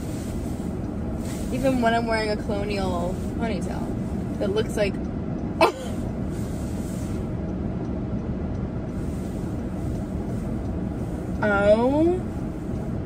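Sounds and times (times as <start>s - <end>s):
car cabin engine rumble: 0.0s - 13.0s.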